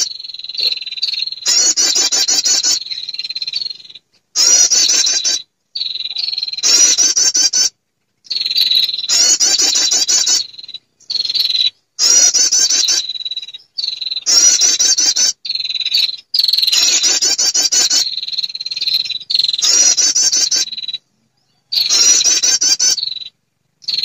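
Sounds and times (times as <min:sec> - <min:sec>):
bird chirping trills: 0:00.0 - 0:24.0.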